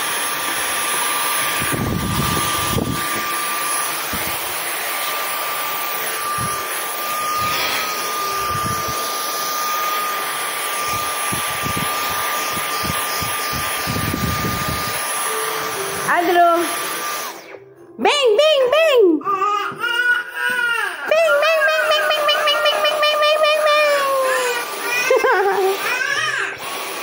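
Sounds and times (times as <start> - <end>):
stick vacuum cleaner whining: 0.0 - 17.7, 19.3 - 27.0.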